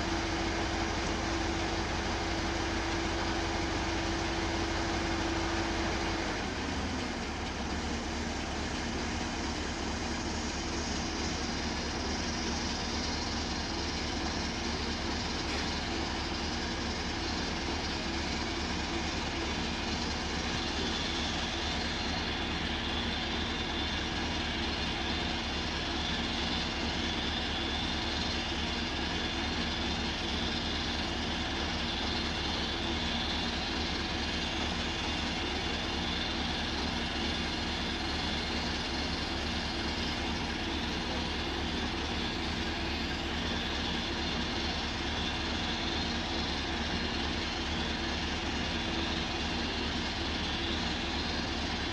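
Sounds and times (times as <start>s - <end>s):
drilling rig engine: 0.0s - 51.9s.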